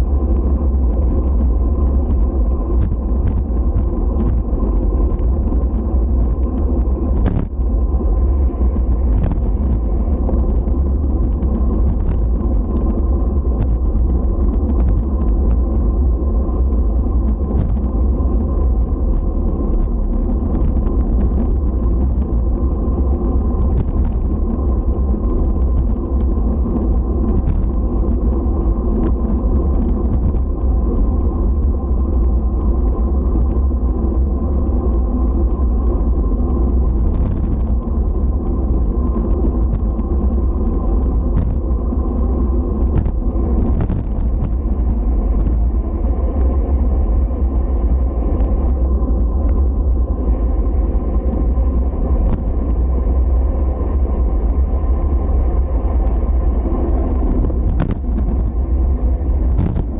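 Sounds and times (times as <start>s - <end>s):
low rumble: 0.0s - 59.9s.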